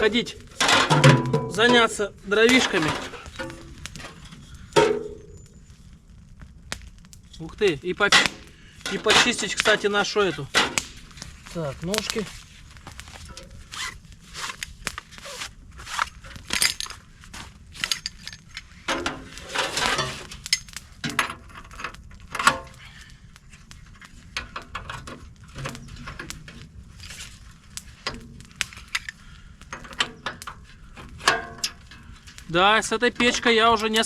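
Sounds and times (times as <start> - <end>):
rustle: 0.0 - 34.0.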